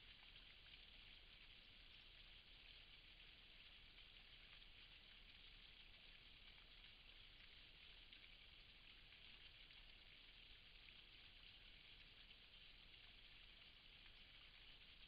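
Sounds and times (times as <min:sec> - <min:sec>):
faint microphone hiss: 0:00.0 - 0:15.0.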